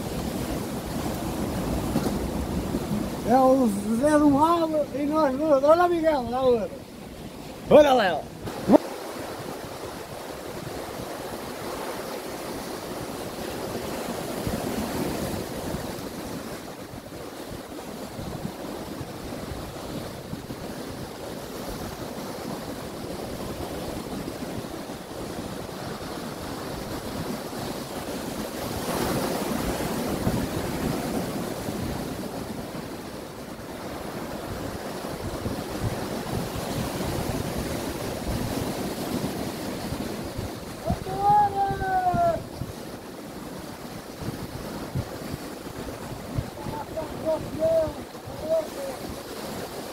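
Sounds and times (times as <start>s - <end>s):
surf breaking over rocks: 0.0s - 49.9s.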